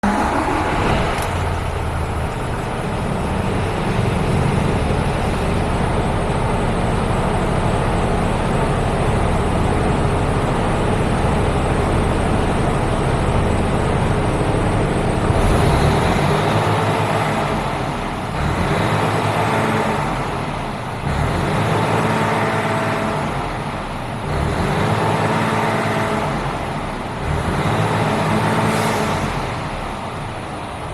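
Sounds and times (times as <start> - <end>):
diesel engine idling: 0.0 - 30.9
diesel engine revving: 0.0 - 30.9
diesel truck engine starting: 0.0 - 30.9.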